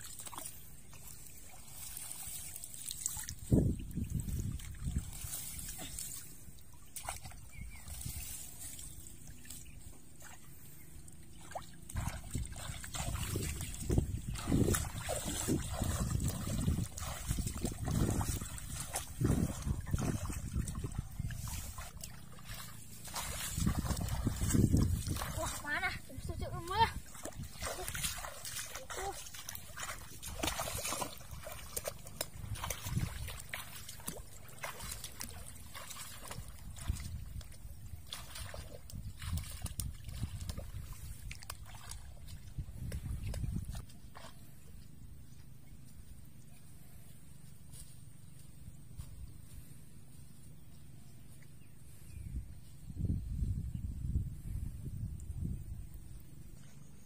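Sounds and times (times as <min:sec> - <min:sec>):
muddy water splashing: 0:00.0 - 0:52.1.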